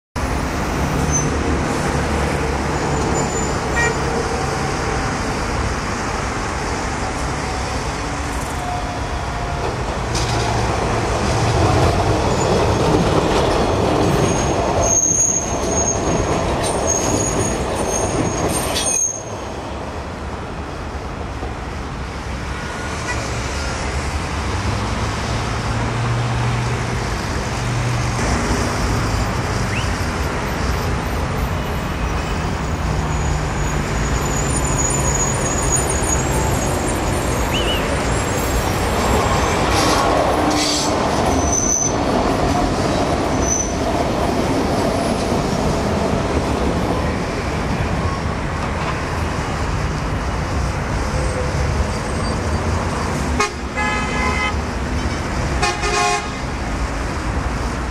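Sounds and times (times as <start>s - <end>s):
electric tram passing: 0.2s - 57.9s
road traffic noise: 0.2s - 57.9s.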